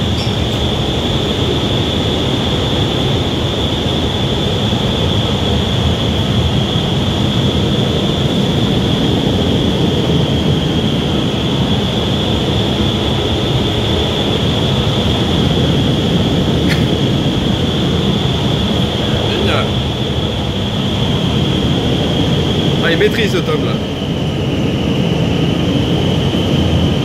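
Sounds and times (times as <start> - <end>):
high whine: 0.0 - 27.0
wind tunnel air rush: 0.0 - 27.0.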